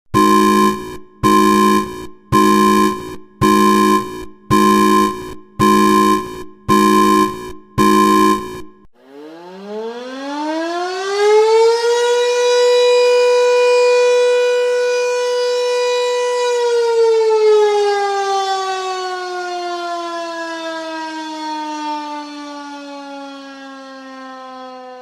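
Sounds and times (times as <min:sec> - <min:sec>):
warning siren wailing: 0:00.1 - 0:25.0.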